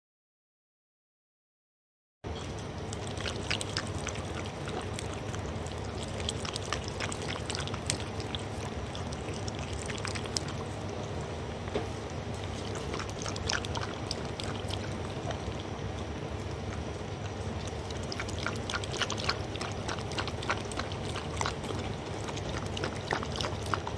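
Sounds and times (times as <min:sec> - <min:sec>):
dog lapping from bowl: 0:02.3 - 0:23.9.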